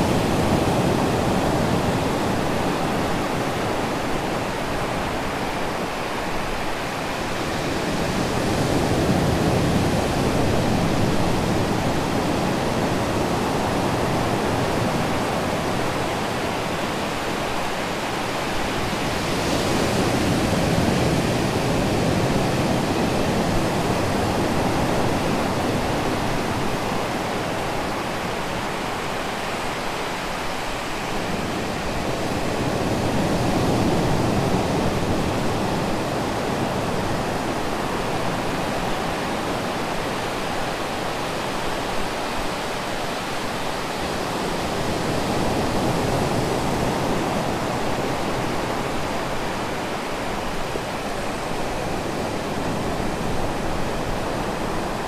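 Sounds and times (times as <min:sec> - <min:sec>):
surf washing over sand: 0:00.0 - 0:55.0.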